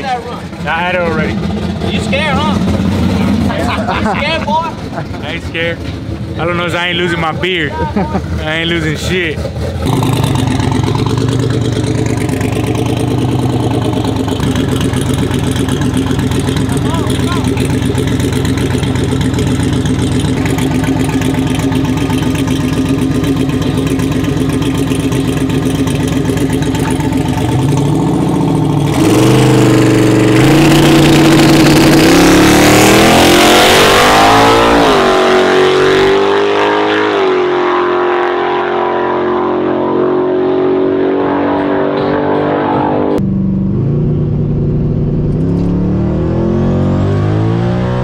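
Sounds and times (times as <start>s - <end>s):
truck engine revving and accelerating: 0.0s - 48.0s.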